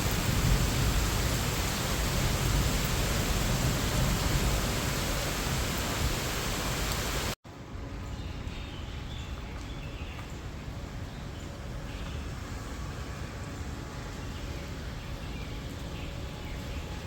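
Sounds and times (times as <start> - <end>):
rain falling on leaves: 0.0 - 7.4, 9.3 - 17.0
quiet outdoor ambience: 0.0 - 17.0.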